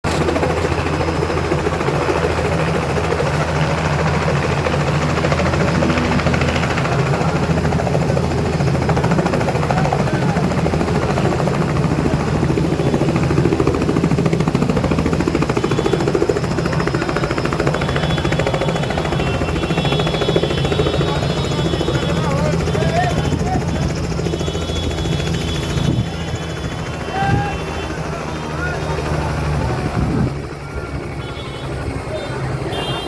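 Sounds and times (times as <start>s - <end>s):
helicopter engine drone: 0.0s - 33.0s
helicopter rotor chop: 0.0s - 33.0s.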